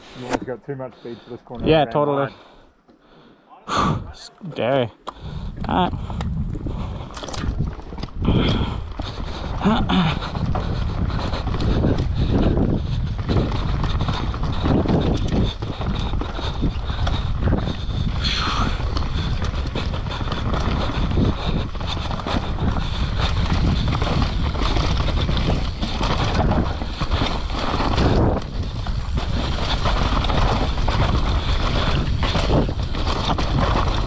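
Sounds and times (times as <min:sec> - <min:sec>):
tyres on dirt trail: 0:00.0 - 0:34.0
wind rushing over microphone: 0:05.2 - 0:34.0
bike frame and chain rattling: 0:06.7 - 0:34.0.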